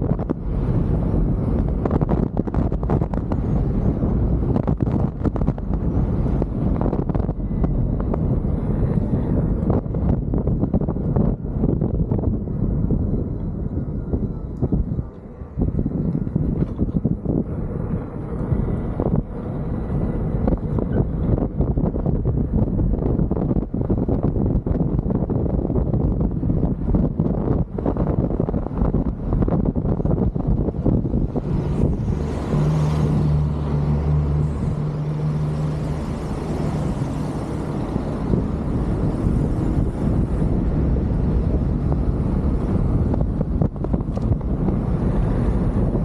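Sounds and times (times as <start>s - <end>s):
motor vehicle hum: 0.0s - 46.0s
wind buffeting microphone: 0.0s - 46.0s.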